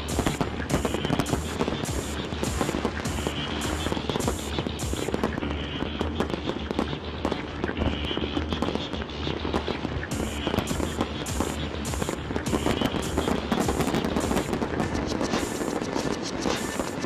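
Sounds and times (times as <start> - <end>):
fireworks bangs and crackles: 0.0 - 17.0
music with a steady beat: 0.0 - 17.0.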